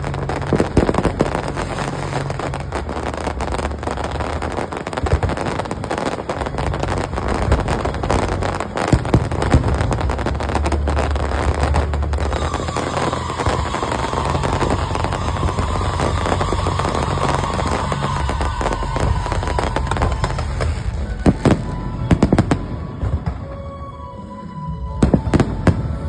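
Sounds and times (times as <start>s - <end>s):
fireworks bangs and crackles: 0.0s - 26.0s
low engine-like drone: 0.0s - 26.0s.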